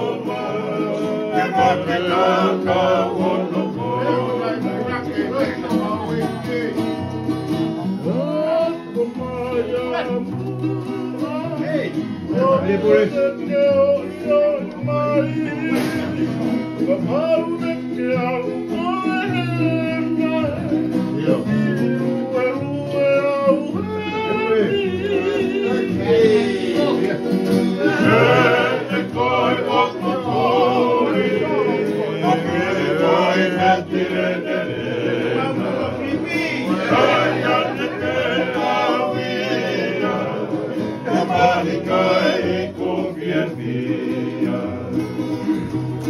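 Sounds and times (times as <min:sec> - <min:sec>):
men singing in harmony: 0:00.0 - 0:07.3, 0:08.0 - 0:45.8
strummed acoustic guitars: 0:00.0 - 0:46.0.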